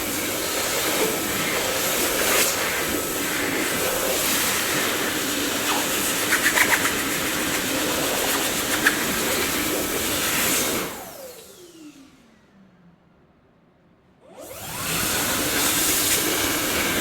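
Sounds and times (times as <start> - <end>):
vacuum cleaner running: 0.0 - 12.6, 14.2 - 17.0.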